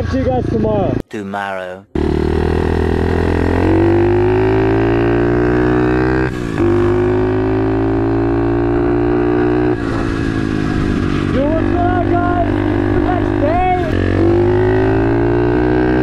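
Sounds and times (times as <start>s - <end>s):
small motorbike engine droning: 1.9s - 16.0s.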